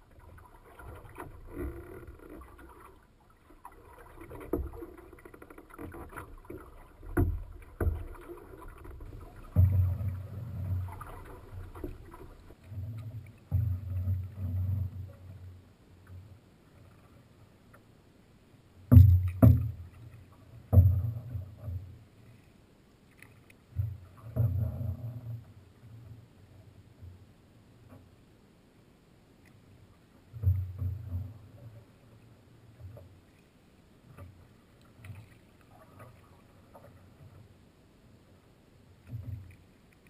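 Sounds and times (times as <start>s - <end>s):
paddle strokes in water: 0.0s - 18.0s, 18.8s - 28.3s, 29.4s - 40.0s
water sloshing against hull: 0.0s - 40.0s.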